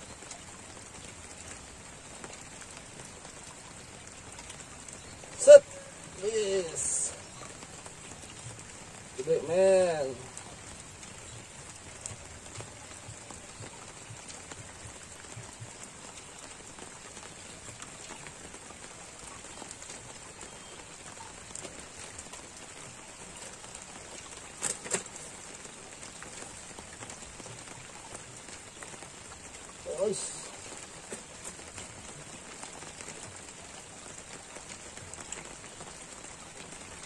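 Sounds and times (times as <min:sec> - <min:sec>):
light rain on water: 0:00.0 - 0:37.0.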